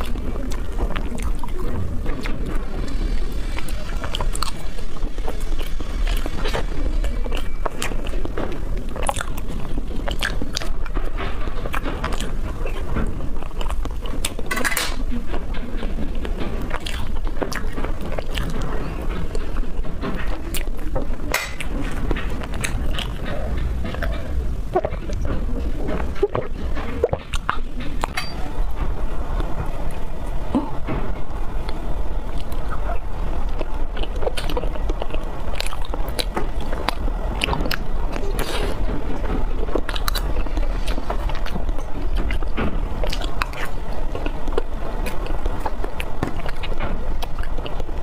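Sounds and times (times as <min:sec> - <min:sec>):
wet chewing mouth clicks: 0:00.0 - 0:28.5, 0:29.4 - 0:48.0
steady low hum: 0:00.0 - 0:48.0.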